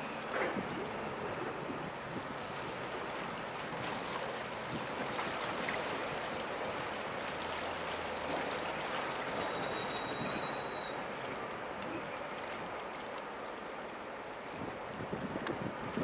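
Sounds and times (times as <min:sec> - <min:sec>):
rushing water and wind: 0:00.0 - 0:16.0.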